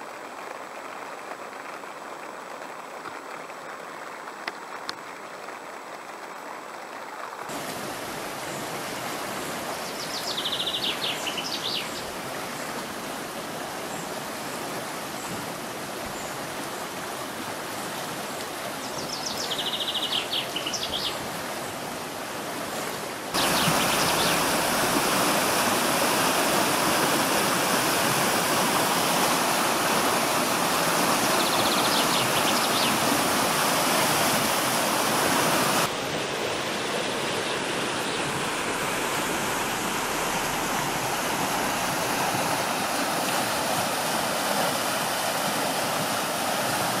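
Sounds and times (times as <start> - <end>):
flooded stream rushing over rapids: 0.0 - 47.0.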